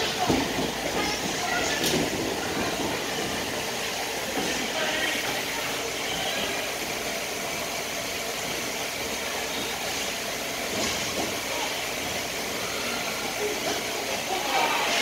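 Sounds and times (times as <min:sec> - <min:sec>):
ice rink ambience: 0:00.0 - 0:15.0.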